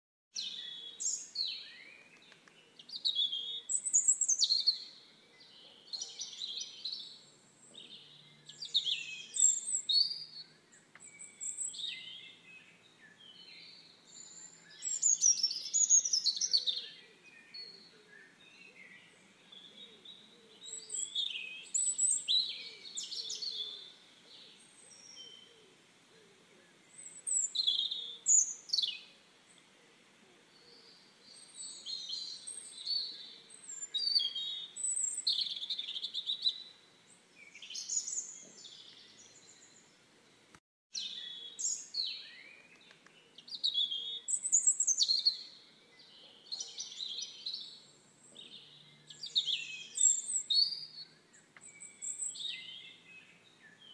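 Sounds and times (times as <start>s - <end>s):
songbirds singing and chirping: 0.3s - 53.9s.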